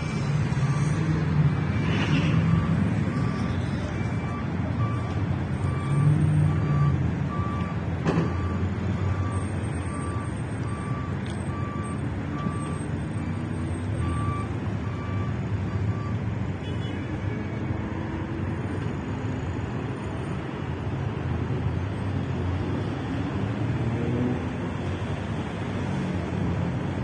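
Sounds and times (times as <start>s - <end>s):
low traffic rumble: 0.0s - 27.0s.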